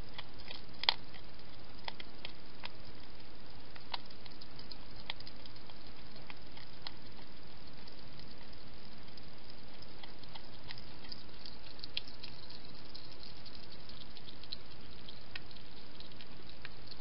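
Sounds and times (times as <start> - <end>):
hedgehog eating clicks and smacks: 0.0 - 17.0
steady hiss: 0.0 - 17.0.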